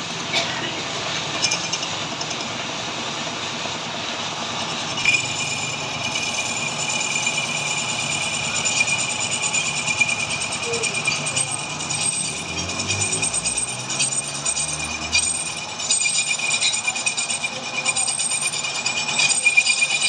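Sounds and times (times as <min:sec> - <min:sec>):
metal lathe running: 0:00.0 - 0:20.0
cutting tool squeal: 0:01.4 - 0:02.4, 0:04.9 - 0:20.0.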